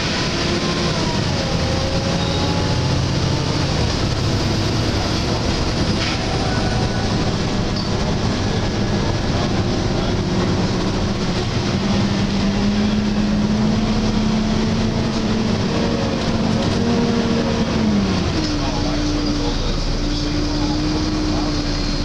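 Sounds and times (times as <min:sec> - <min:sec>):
bus diesel engine: 0:00.0 - 0:22.0
road rumble: 0:00.0 - 0:22.0.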